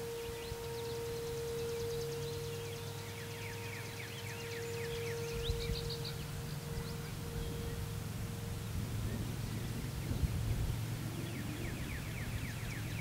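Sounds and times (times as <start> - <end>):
bird trilling: 0.0 - 13.0
distant warning siren: 0.0 - 13.0.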